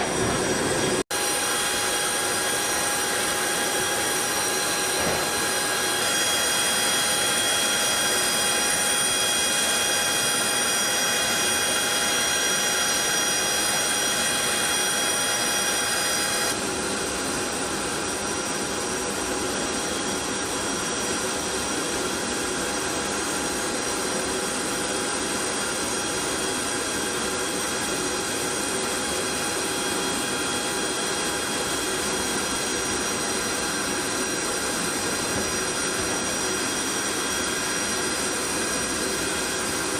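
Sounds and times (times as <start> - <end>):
jet turbines whining: 0.0 - 18.2, 26.1 - 39.9.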